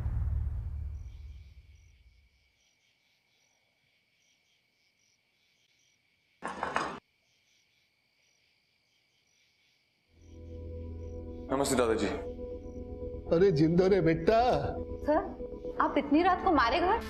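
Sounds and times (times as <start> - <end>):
crickets chirping: 0.6 - 17.0.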